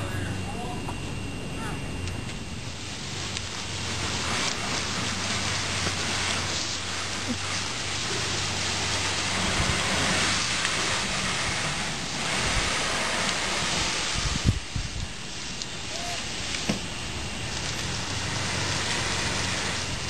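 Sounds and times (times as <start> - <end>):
low steady hum: 0.0 - 20.0
hose spraying water on car: 2.2 - 20.0.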